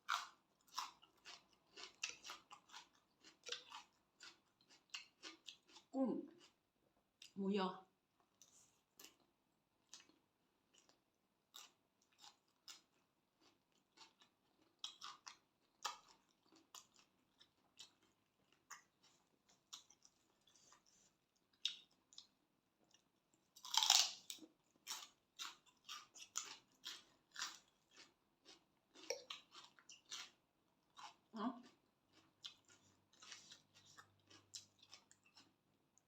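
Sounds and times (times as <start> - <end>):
close-up chewing and crunching: 0.0 - 7.4, 8.2 - 36.0.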